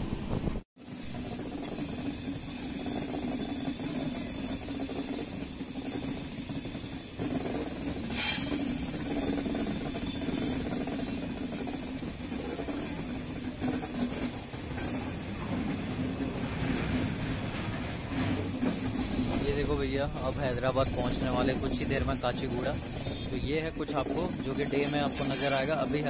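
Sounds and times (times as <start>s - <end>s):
train coaches rumbling on track: 0.0s - 26.0s.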